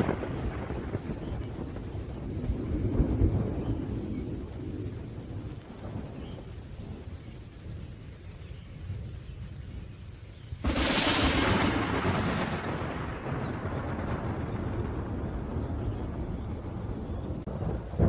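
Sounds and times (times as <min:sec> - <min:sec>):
rolling thunder: 0:00.0 - 0:07.9, 0:10.6 - 0:18.0
faint hiss of rain: 0:00.0 - 0:18.0.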